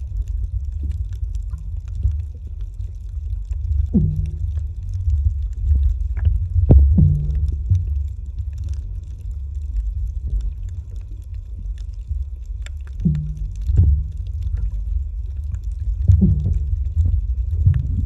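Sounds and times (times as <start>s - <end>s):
muffled underwater rumble: 0.0s - 18.0s
faint clicks: 0.1s - 18.0s.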